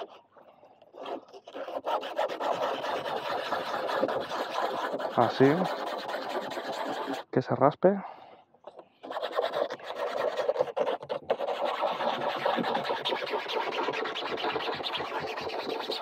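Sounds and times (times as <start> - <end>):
sandpaper scraping a surface: 0.0 - 0.2, 0.9 - 7.3, 9.0 - 16.0.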